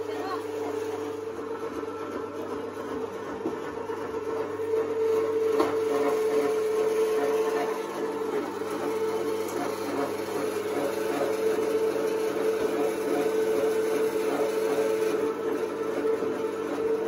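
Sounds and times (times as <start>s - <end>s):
meat grinder motor humming: 0.0s - 17.0s.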